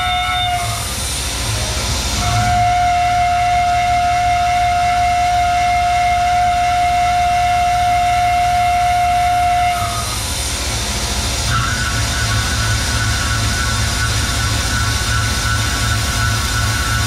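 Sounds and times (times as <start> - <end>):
milling machine running: 0.0 - 17.0.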